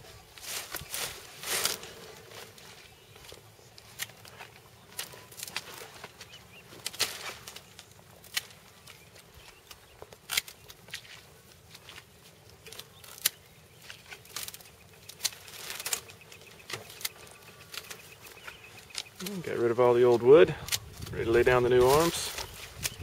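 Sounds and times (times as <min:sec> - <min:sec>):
rustling of cut canes: 0:00.0 - 0:23.0
pruning shears snipping: 0:03.2 - 0:19.5, 0:20.1 - 0:23.0.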